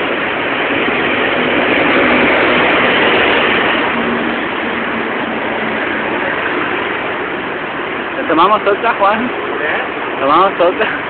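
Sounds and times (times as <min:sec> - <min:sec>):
vehicle passing close: 0:00.0 - 0:10.2
street traffic: 0:00.0 - 0:11.0.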